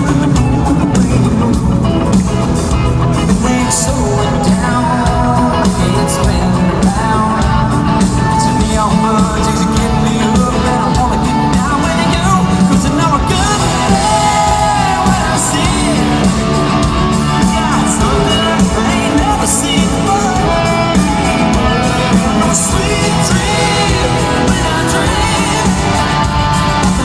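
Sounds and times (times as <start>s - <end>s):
live country-rock band playing: 0.0s - 27.0s
man singing: 0.0s - 27.0s.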